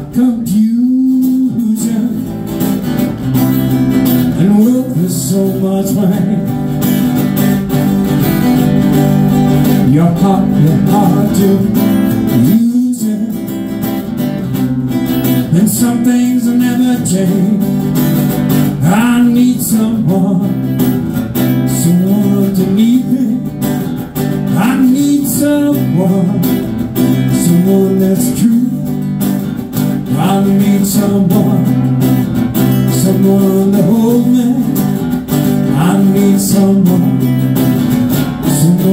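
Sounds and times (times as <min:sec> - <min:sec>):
man singing: 0:00.0 - 0:02.9, 0:04.0 - 0:07.2, 0:09.6 - 0:14.3, 0:15.2 - 0:29.2, 0:29.9 - 0:38.9
acoustic guitar strummed and picked: 0:00.0 - 0:38.9.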